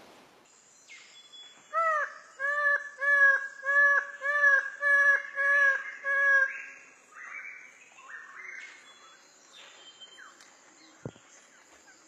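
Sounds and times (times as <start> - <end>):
faint bird chirp: 0.4 - 12.0.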